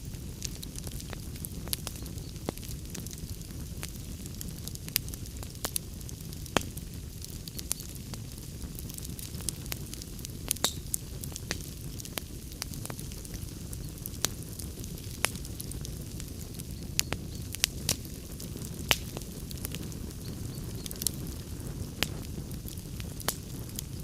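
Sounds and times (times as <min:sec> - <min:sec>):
fire crackling and popping: 0:00.0 - 0:24.0
log fire rumbling: 0:00.0 - 0:24.0.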